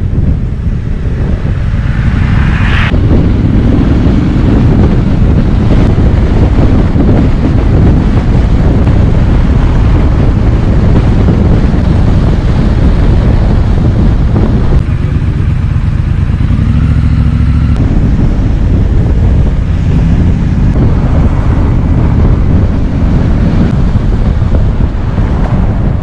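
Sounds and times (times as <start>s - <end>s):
motorcycle engine running: 0.0s - 26.0s
road noise: 0.0s - 26.0s
wind rush on microphone: 0.0s - 26.0s.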